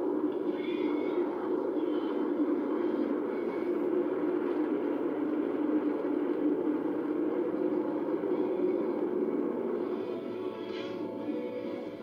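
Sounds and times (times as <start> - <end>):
jet engines overhead: 0.0 - 12.0.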